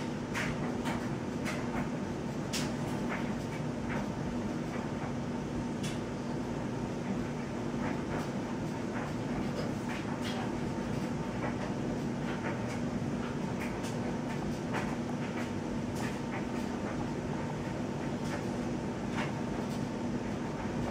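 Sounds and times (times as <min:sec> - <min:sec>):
steady mechanical hum: 0:00.0 - 0:20.9.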